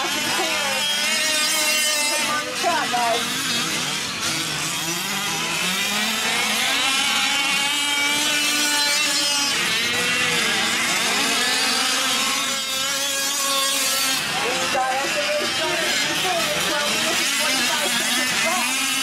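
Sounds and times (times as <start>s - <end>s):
small two-stroke engines buzzing: 0.0s - 19.0s.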